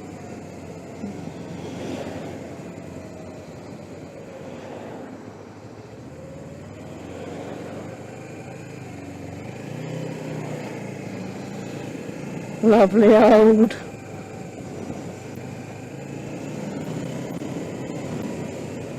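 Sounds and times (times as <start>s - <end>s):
motorcycle engine running: 0.0s - 4.6s, 5.2s - 18.9s.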